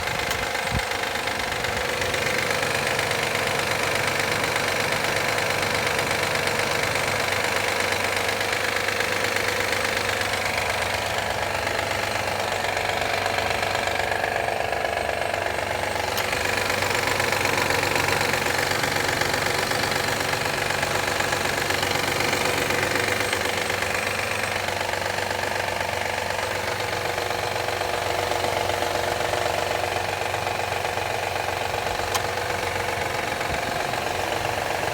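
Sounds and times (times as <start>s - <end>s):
car engine idling: 0.0s - 34.9s
rapid clapping engine knock: 0.0s - 34.9s.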